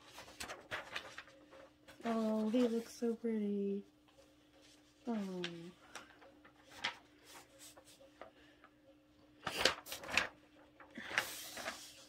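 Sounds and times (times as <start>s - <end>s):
glossy paper pages rustling: 0.0s - 3.2s, 4.0s - 8.8s, 9.4s - 12.0s.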